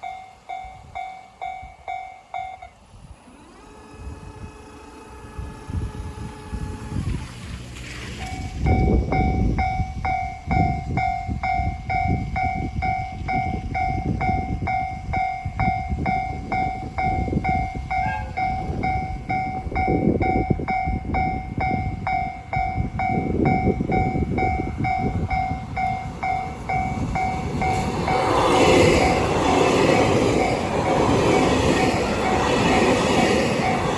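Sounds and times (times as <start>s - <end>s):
level crossing alarm ringing: 0.0s - 2.9s, 8.2s - 33.9s
train arriving: 0.0s - 33.9s.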